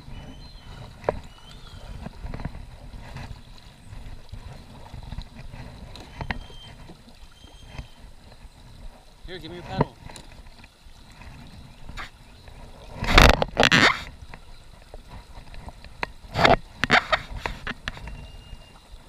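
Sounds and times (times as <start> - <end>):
kayak paddle splashing and knocking: 0.0 - 19.0
river water gurgling: 0.0 - 19.0.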